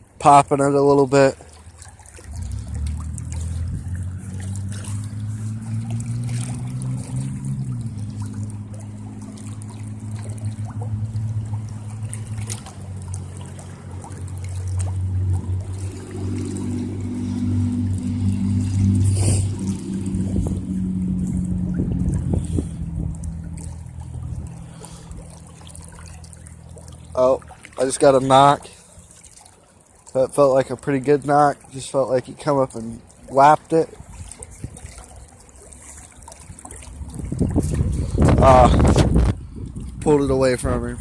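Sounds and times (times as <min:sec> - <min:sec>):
creek water trickling: 0:00.0 - 0:41.0
low engine drone: 0:00.0 - 0:41.0.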